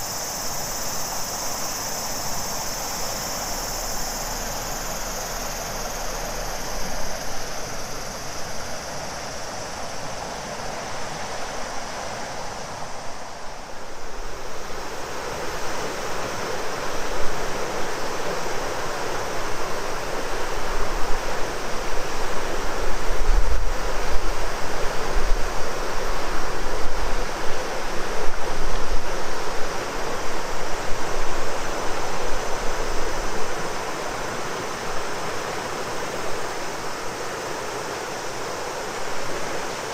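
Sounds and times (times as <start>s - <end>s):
cicadas buzzing: 0.0s - 39.9s
river water rushing and splashing: 0.0s - 39.9s.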